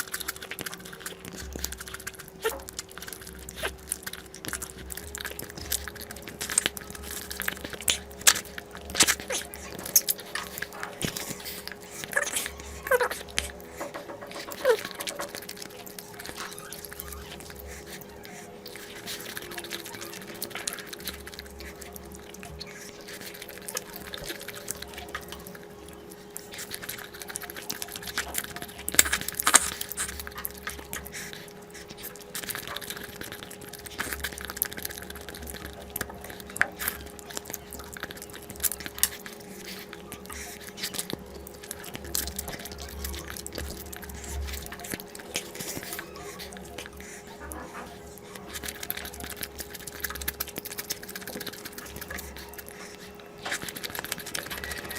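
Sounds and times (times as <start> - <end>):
faint steady hum: 0.0 - 54.9
person chewing and smacking: 0.0 - 54.9.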